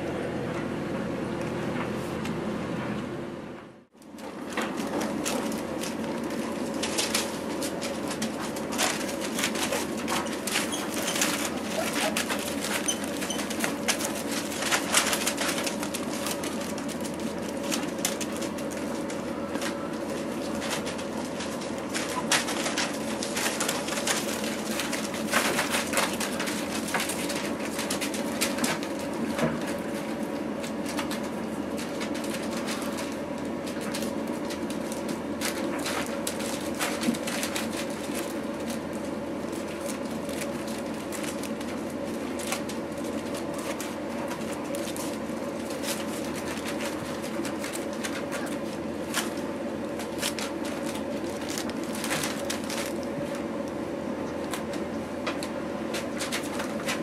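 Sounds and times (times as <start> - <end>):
steady low hum: 0.0 - 57.0
puppies scrambling on newspaper: 4.0 - 57.0.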